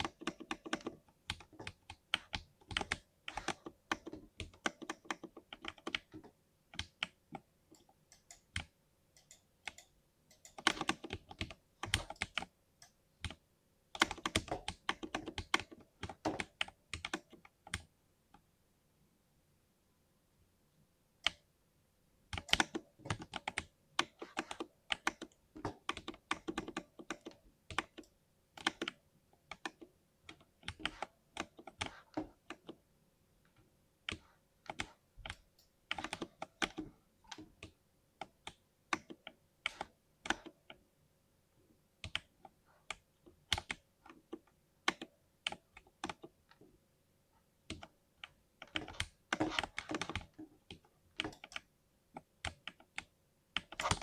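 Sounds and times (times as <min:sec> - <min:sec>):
mechanical keyboard typing: 0:00.0 - 0:17.9, 0:22.3 - 0:32.8, 0:34.1 - 0:40.8, 0:42.0 - 0:46.6, 0:47.6 - 0:54.0.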